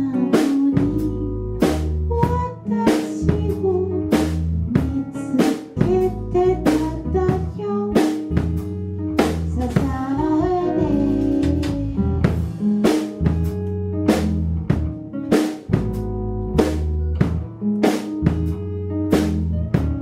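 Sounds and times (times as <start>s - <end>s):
band music: 0.0s - 20.0s
drum kit beat: 0.0s - 20.0s.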